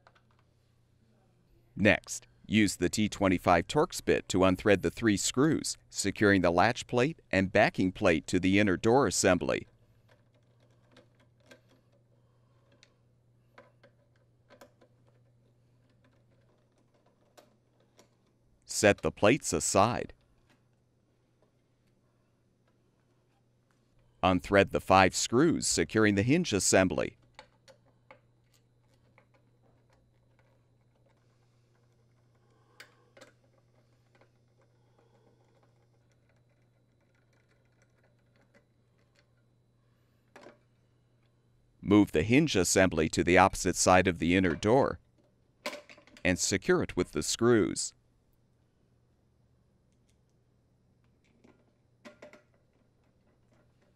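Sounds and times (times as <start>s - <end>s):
low steady hum: 0.1s - 53.9s.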